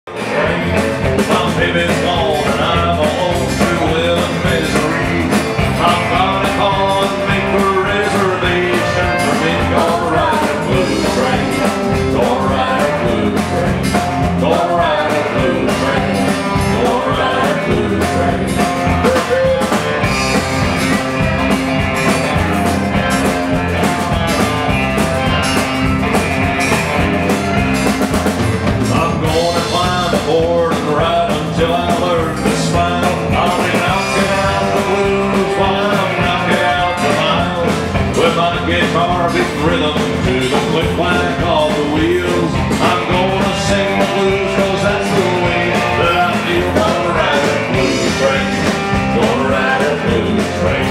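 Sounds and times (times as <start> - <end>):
live country band playing: 0.1 - 50.9.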